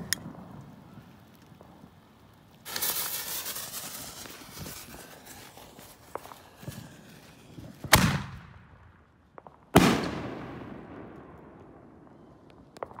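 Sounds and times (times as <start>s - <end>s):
faint firework crackles: 0.0s - 13.0s
firework bursts echoing: 0.0s - 13.0s.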